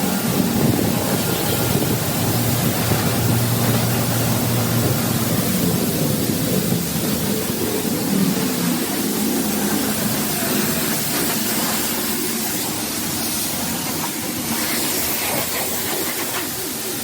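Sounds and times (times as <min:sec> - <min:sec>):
pressure washer spray hissing: 0:00.0 - 0:17.0.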